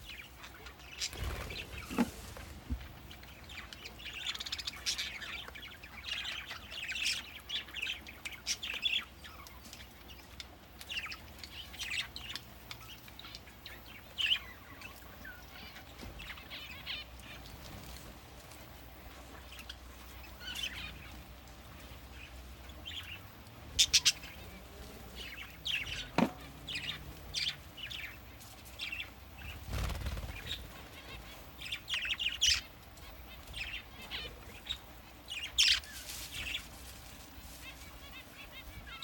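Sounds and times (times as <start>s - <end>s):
birds chirping and calling: 0.0s - 39.0s.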